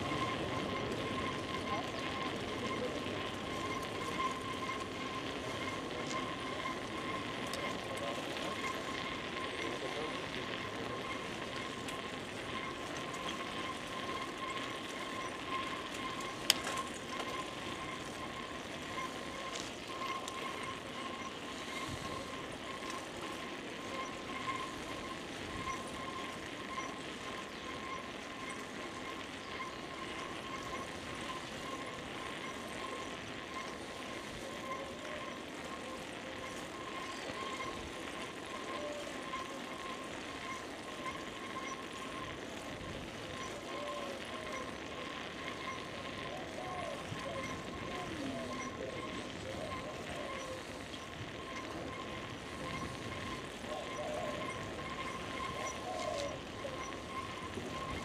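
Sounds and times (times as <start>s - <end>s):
bicycle tyres rushing: 0.0s - 58.0s
thin high whine: 0.0s - 58.0s.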